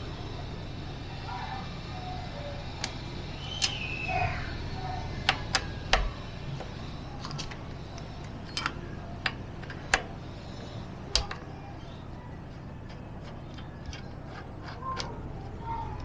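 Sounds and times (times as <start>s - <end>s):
low steady hum: 0.0s - 16.0s
tools clicking on metal parts: 2.6s - 16.0s.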